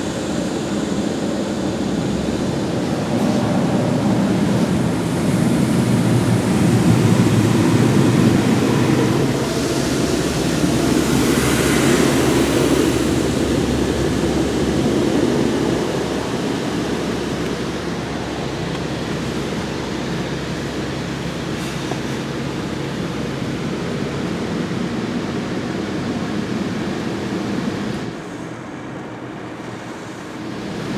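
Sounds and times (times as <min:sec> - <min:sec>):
high-pressure water jets spraying: 0:00.0 - 0:28.0.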